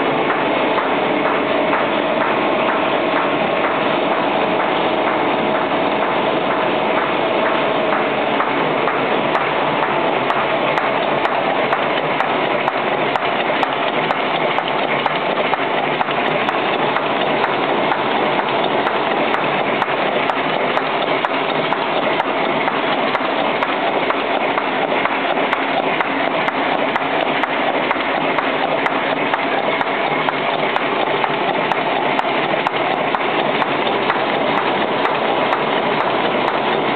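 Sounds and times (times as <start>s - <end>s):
machine clattering: 0.0s - 36.9s.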